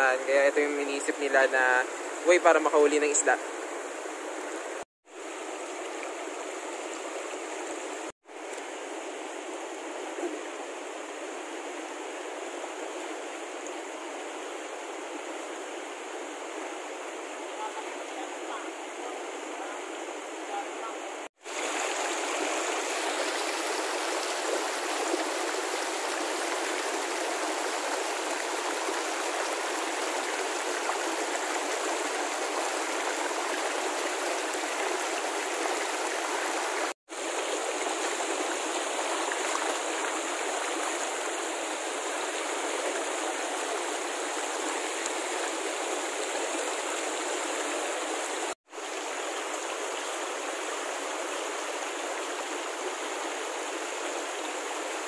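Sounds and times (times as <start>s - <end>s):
stream rushing over stones: 0.0s - 55.0s.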